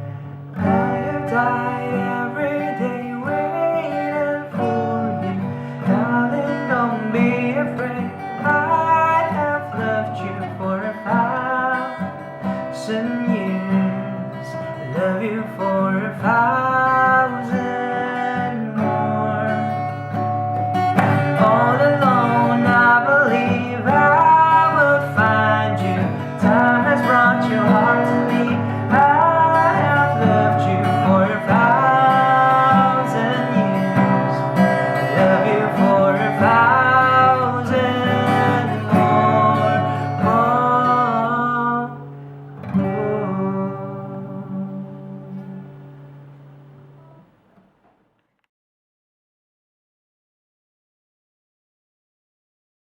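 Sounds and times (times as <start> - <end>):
strummed acoustic guitar: 0.0 - 48.1
person singing: 0.6 - 19.9, 21.0 - 46.0.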